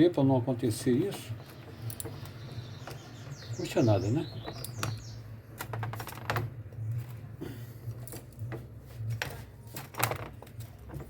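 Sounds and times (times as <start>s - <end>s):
tools and metal parts clicking: 0.0s - 3.4s, 4.2s - 7.2s, 7.8s - 11.0s.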